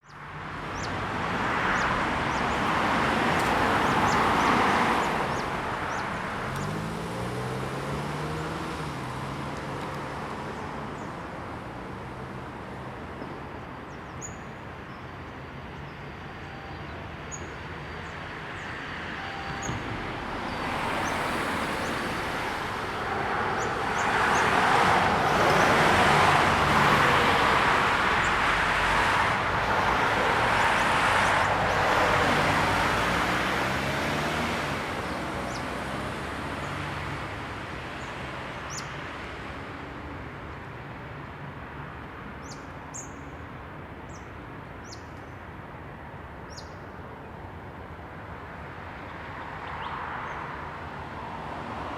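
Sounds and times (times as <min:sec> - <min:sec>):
cars passing with tyre noise: 0:00.0 - 0:51.9.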